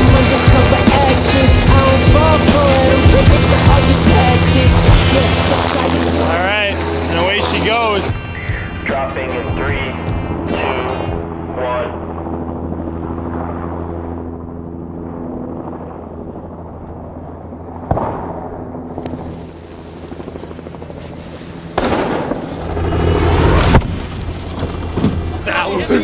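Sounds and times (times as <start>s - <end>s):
helicopter hovering: 0.0s - 26.0s.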